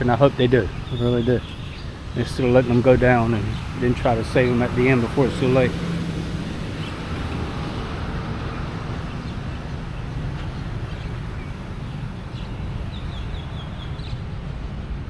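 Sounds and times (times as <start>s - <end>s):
bird chirping: 0.0s - 14.8s
distant traffic rumble: 0.0s - 15.0s.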